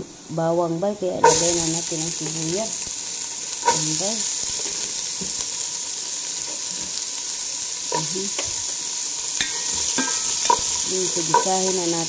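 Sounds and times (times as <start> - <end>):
onion sizzling in hot oil: 0.1 - 12.0.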